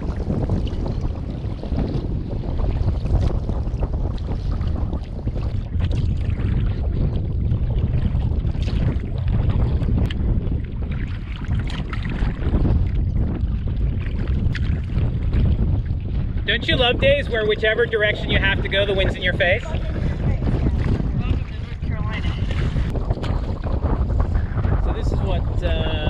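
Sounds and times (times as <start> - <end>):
kayak paddle splashes: 0.0 - 16.8, 17.4 - 24.8
wind buffeting microphone: 0.0 - 26.0.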